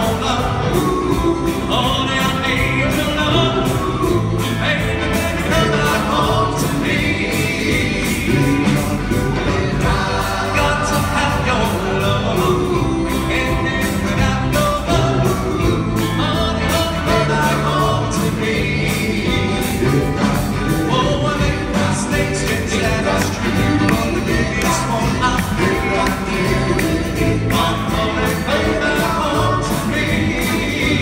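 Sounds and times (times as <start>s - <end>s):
drums steady beat: 0.0s - 31.0s
live band: 0.0s - 31.0s
male vocal group singing harmony: 0.0s - 31.0s.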